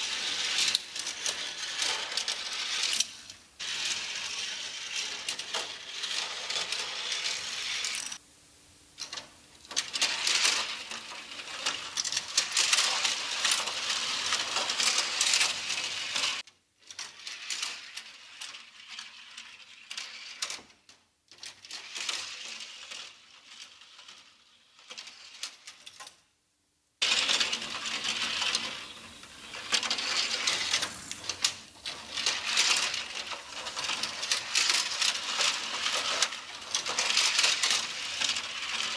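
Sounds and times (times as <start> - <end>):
toy cars clattering down plastic track: 0.0 - 8.2, 9.0 - 26.3, 27.0 - 38.9.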